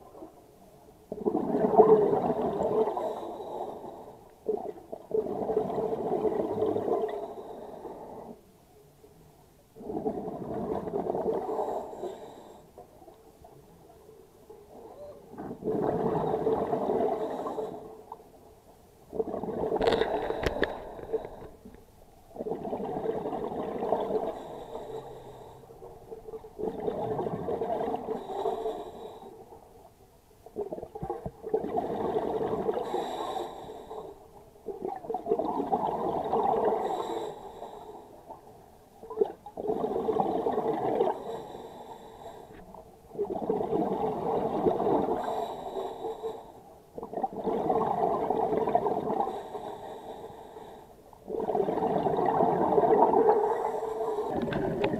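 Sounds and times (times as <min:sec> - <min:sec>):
exhaled bubbles underwater: 0:01.1 - 0:08.4, 0:09.8 - 0:18.0, 0:19.0 - 0:29.7, 0:30.4 - 0:54.9.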